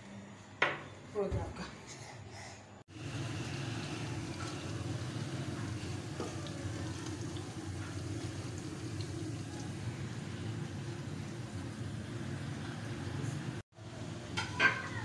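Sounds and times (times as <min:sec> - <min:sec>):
frying rumble: 0:02.9 - 0:15.0.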